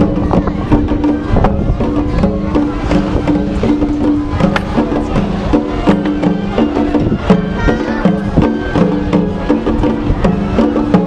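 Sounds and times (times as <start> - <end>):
melody of long held notes: 0.0 - 11.0
small drums beaten in rhythm: 0.0 - 11.0.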